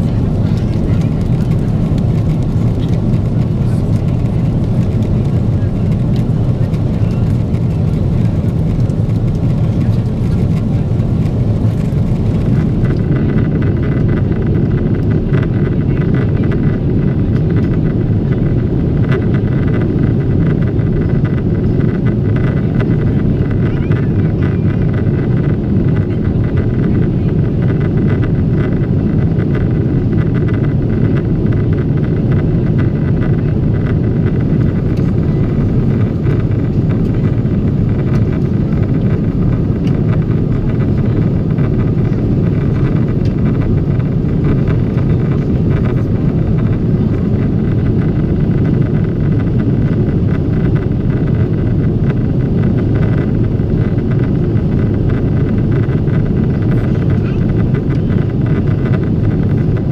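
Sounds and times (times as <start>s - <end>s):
airliner cabin engine roar: 0.0s - 59.9s.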